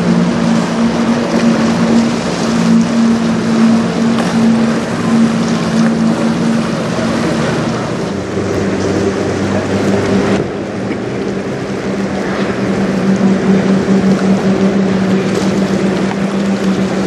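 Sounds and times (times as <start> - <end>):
boat engine droning: 0.0 - 17.0
choppy water: 0.0 - 17.0
wind on microphone: 0.0 - 17.0.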